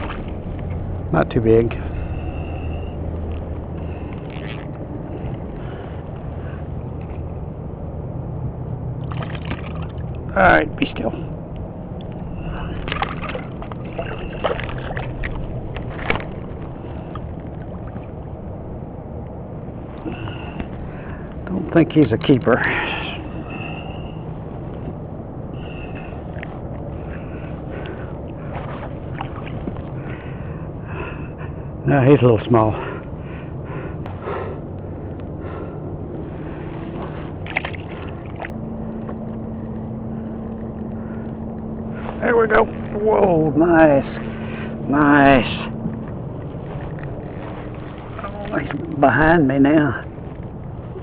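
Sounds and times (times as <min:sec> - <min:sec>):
water against a kayak: 0:00.0 - 0:00.9, 0:01.8 - 0:07.4, 0:09.0 - 0:11.1, 0:12.0 - 0:31.6, 0:34.8 - 0:51.0
low wind rumble on microphone: 0:00.0 - 0:51.0.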